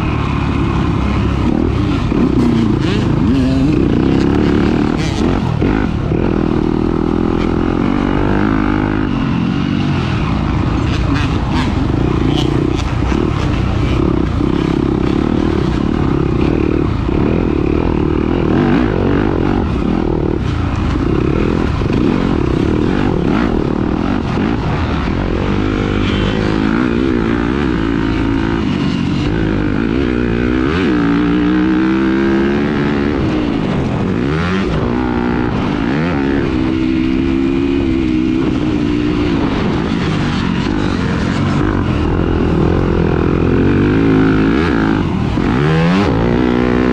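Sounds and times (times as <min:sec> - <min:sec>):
dirt bike engine racing: 0:00.0 - 0:46.9.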